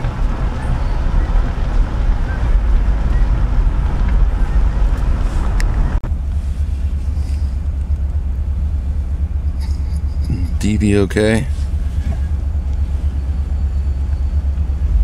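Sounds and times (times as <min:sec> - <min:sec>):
car driving slowly interior: 0:00.0 - 0:15.0.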